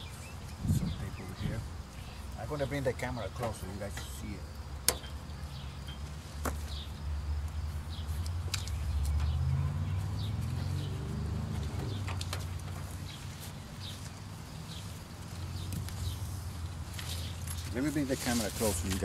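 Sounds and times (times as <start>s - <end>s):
small birds chirping faintly: 0.0s - 19.0s.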